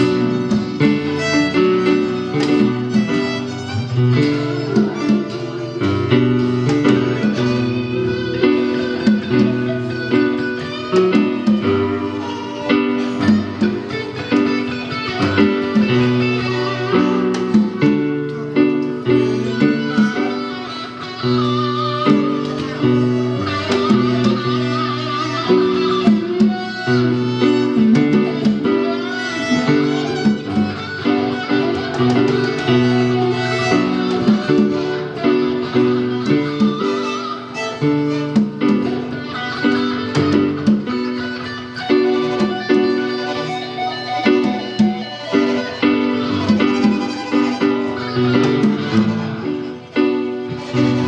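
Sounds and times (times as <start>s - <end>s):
acoustic guitar plucked and strummed: 0.0s - 51.0s
live band playing: 0.0s - 51.0s
sustained melodic notes: 0.0s - 51.0s.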